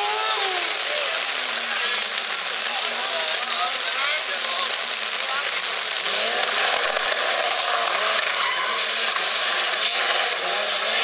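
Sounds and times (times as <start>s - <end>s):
distant car engine revving: 0.0s - 11.0s
loud steady hiss: 0.0s - 11.0s.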